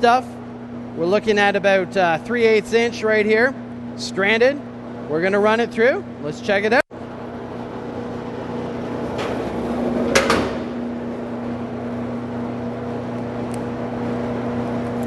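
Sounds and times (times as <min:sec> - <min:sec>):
wire stripping machine humming: 0:00.0 - 0:15.0.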